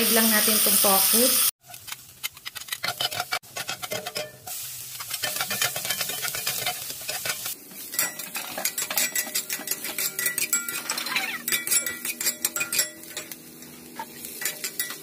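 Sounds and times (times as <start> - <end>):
food frying in hot oil: 0.0 - 12.2
spatula scraping a pan: 2.3 - 15.0.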